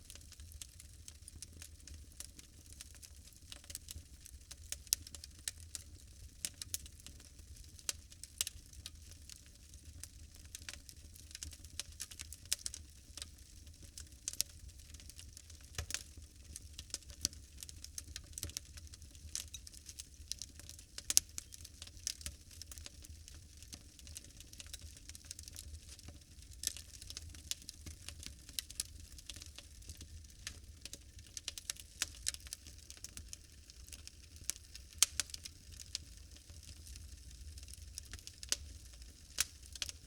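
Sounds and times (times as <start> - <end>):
fire crackling and snapping: 0.0 - 40.0.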